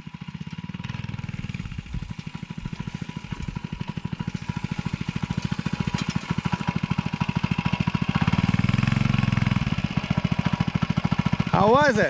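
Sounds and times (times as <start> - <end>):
minibike engine putt-putt: 0.0 - 12.0.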